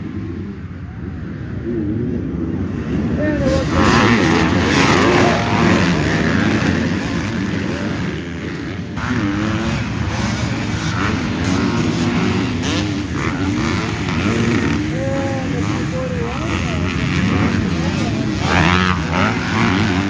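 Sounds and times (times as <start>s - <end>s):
dirt bike engine revving: 2.7s - 20.0s.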